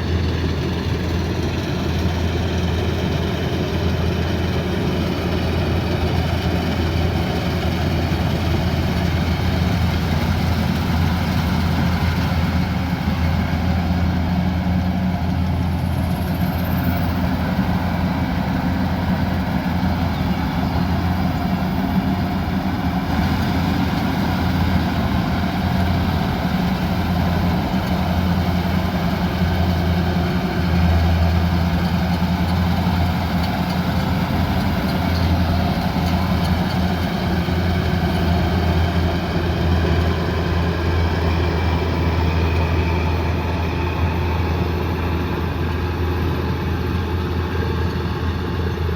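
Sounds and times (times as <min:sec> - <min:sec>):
combine harvester engine humming: 0:00.0 - 0:48.9.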